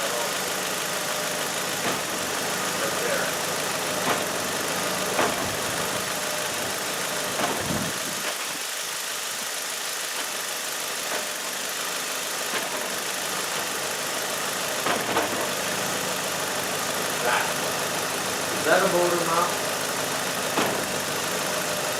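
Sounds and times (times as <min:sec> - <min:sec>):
engine clunks: 0:00.0 - 0:08.6, 0:10.1 - 0:11.6, 0:12.2 - 0:21.9
car engine running: 0:00.0 - 0:21.9.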